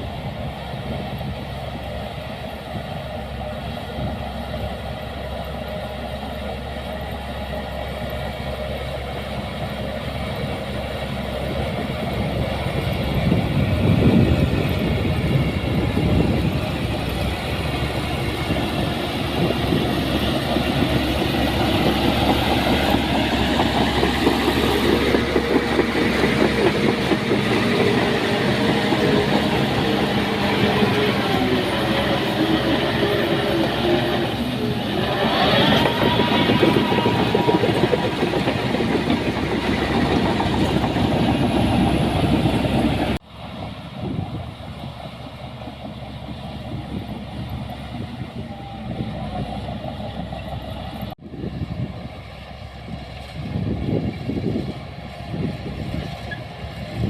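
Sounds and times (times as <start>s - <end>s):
bulldozer diesel engine running: 0.0s - 57.0s
steel tracks clanking: 0.0s - 57.0s.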